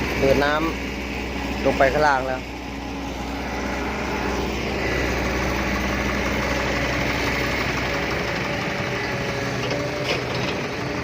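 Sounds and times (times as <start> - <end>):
engine through loud exhaust: 0.0 - 11.0.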